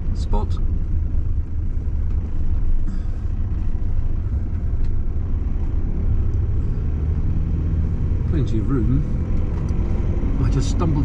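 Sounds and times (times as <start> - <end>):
van engine rumbling: 0.0 - 11.0.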